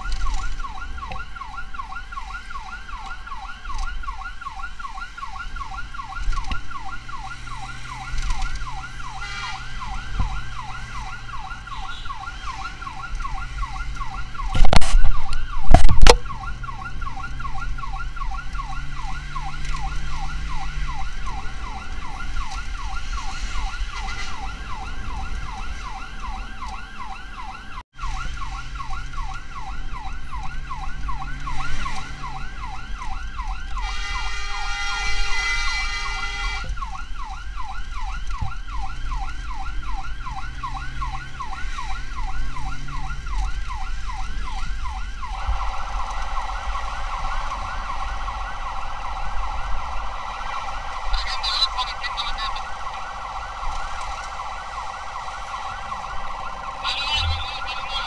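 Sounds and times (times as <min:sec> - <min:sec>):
siren yelping: 0:00.0 - 0:58.0.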